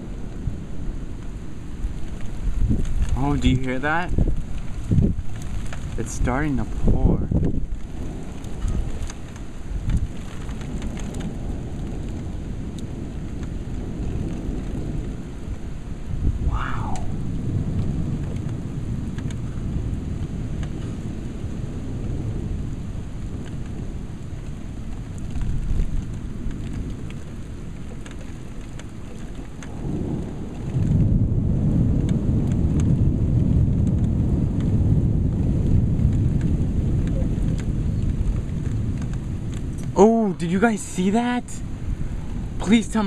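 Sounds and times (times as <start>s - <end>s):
heavy rain pouring: 0.0s - 43.0s
thunder rumbling: 0.0s - 43.0s.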